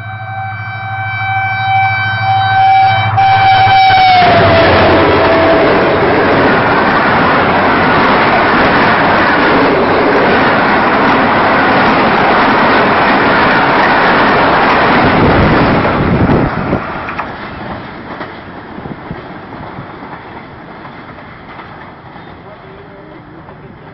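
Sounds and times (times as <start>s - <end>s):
train wheels rumbling on rails: 3.3s - 23.9s.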